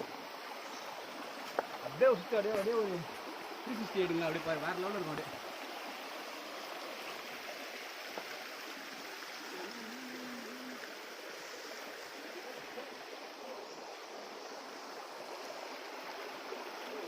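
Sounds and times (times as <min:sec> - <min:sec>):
stream and waterfall rushing: 0:00.0 - 0:17.0.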